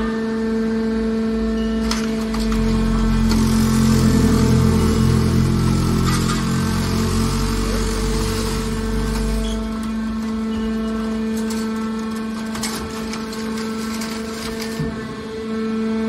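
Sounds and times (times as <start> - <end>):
electric pump hum: 0.0 - 16.0.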